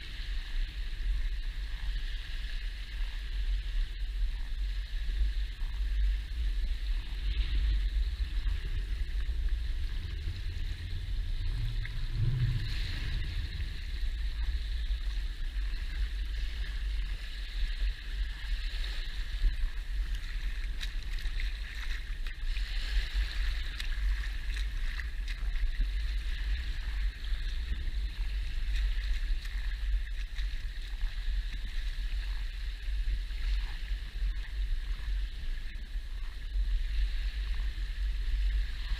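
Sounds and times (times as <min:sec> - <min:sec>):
constant low rumble: 0:00.0 - 0:38.9
water lapping over sand: 0:00.0 - 0:38.9.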